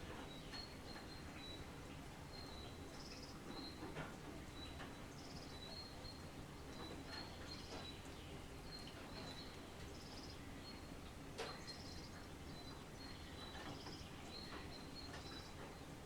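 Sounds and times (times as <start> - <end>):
faint light rain: 0.0 - 16.0.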